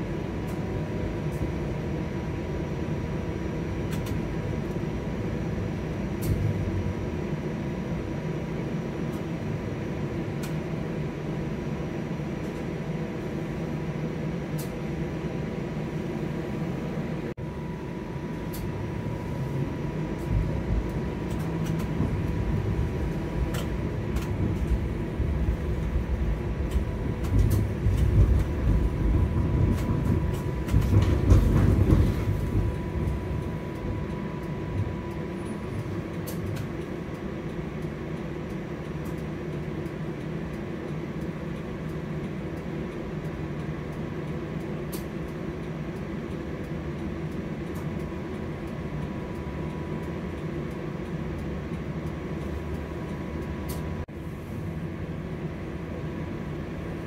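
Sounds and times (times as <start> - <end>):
faint steady whine: 0.0 - 57.0
streetcar rumbling on rails: 0.0 - 57.0.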